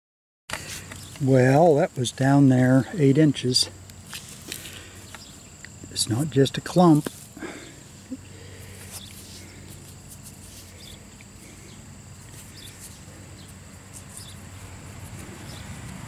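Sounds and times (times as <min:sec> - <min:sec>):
steady low hum: 0:00.5 - 0:16.0.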